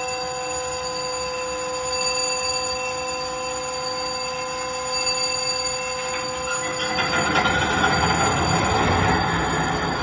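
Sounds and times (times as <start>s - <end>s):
electric alarm ringing: 0.0s - 10.0s.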